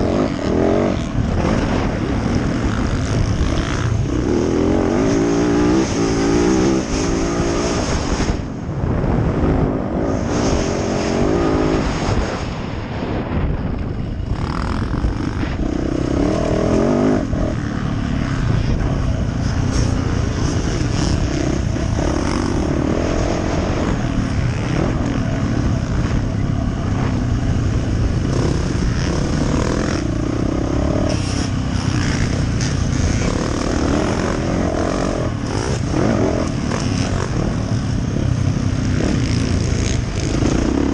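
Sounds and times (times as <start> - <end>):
dirt bike engine revving: 0.0 - 8.5, 9.1 - 12.4, 14.2 - 40.9
rushing wind noise: 0.0 - 40.9.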